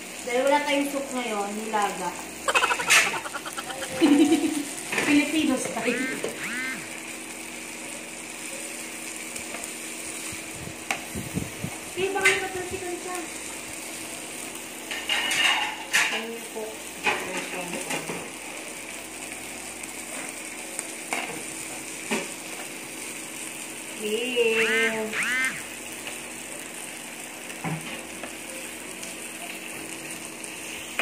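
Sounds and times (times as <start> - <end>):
meat sizzling on grill pan: 0.0 - 31.0.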